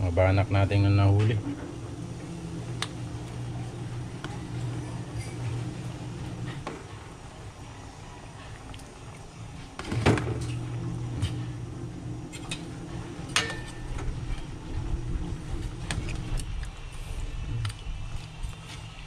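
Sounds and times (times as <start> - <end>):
gas burner rumble: 0.0 - 18.5
low steady hum: 0.0 - 19.0.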